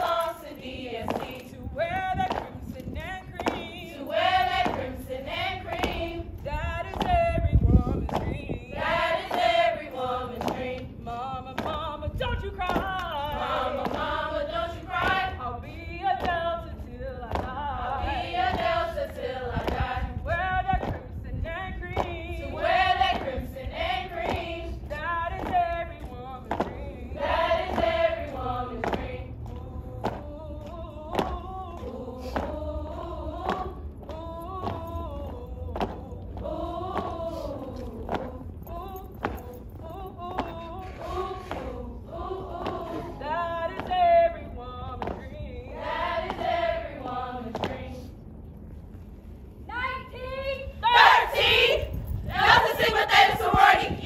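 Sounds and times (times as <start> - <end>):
women singing in unison: 0.0 - 48.1, 49.7 - 54.0.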